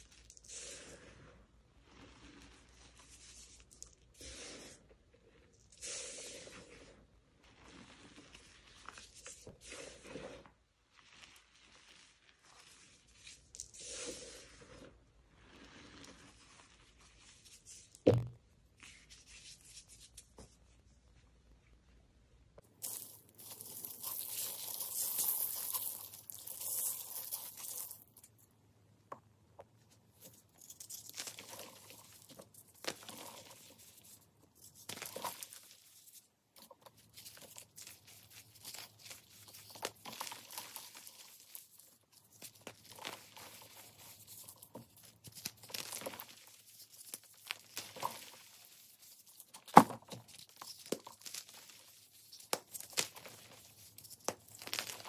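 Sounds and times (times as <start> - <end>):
chalk crumbling by hand: 0.0 - 18.0, 22.6 - 28.4, 29.9 - 55.0
chalk crunches and clicks: 0.0 - 18.0, 22.6 - 28.4, 29.9 - 55.0.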